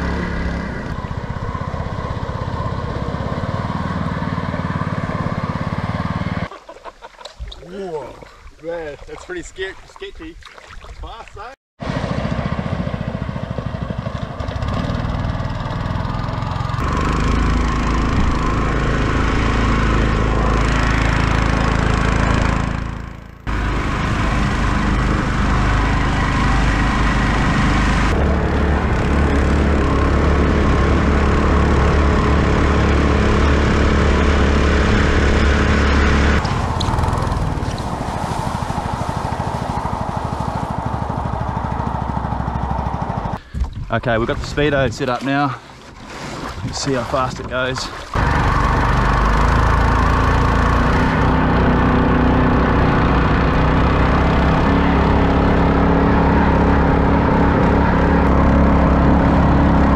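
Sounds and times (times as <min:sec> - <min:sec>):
small petrol engine running hard: 0:00.0 - 0:06.5, 0:11.8 - 0:43.5, 0:48.1 - 0:59.9.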